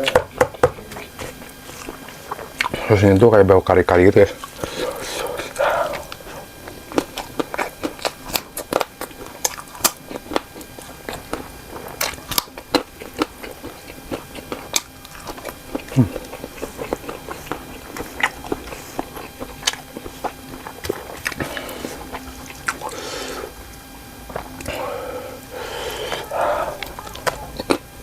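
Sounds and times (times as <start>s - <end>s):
biting and chewing: 1.0s - 3.0s, 3.9s - 28.0s.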